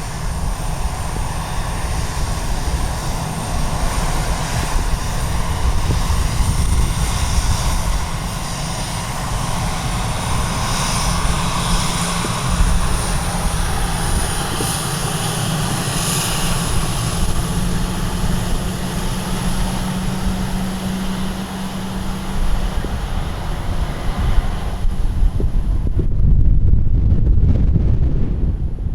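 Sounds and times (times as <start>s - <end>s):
airplane engines whining: 0.0s - 28.9s
wind rumble on microphone: 0.0s - 28.9s.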